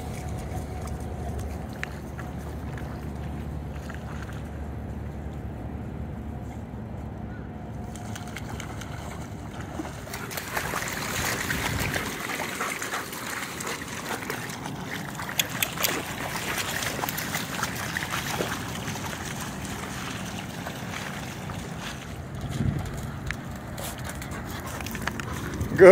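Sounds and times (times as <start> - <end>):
dogs splashing through water: 0.0 - 5.6, 7.8 - 25.9
low steady rumble: 0.0 - 25.9.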